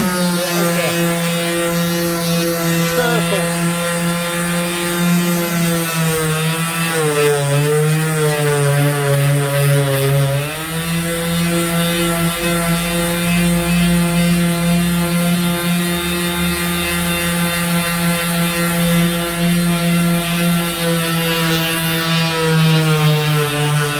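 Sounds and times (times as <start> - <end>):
power tool motor humming: 0.0 - 23.9.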